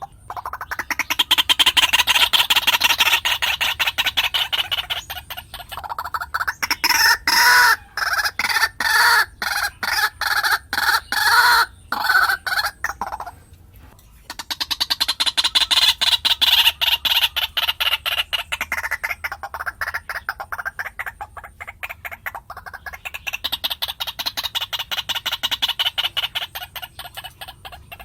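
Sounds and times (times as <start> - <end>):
fast high bird chatter: 0.0 - 13.4, 14.1 - 28.0
waterhen harsh calls: 0.0 - 13.4, 14.3 - 28.0.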